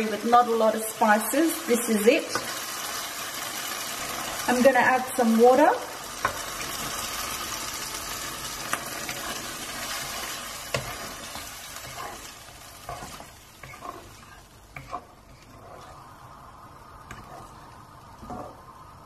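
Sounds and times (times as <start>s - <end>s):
curry sizzling in a wok: 0.0s - 19.0s.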